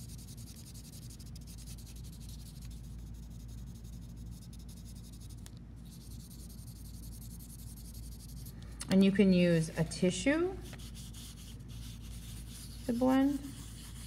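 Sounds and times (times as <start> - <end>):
charcoal rubbing on paper: 0.0 - 8.6, 10.6 - 14.0.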